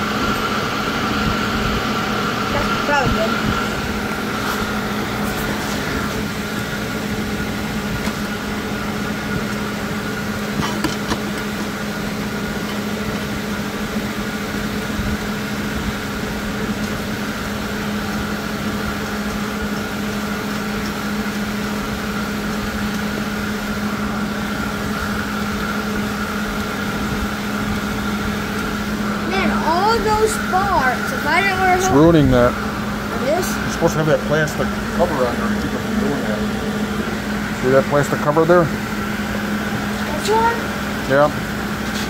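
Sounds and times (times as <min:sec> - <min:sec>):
machine hum with whine: 0:00.0 - 0:42.0.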